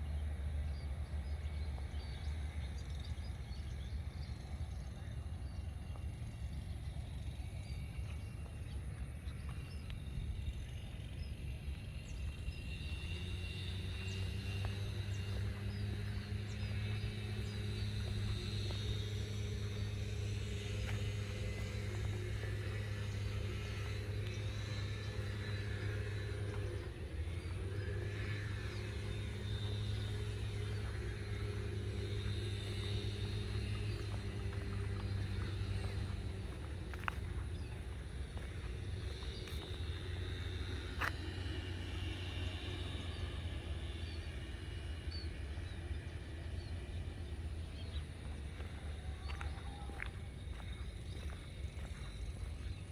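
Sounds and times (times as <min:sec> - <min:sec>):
low engine-like hum: 0:00.0 - 0:52.9
low rumble: 0:00.7 - 0:52.9.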